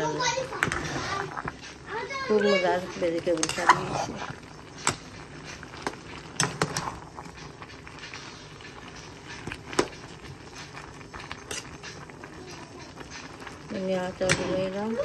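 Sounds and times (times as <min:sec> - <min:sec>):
metal spoon scraping a pot: 0:00.3 - 0:15.0.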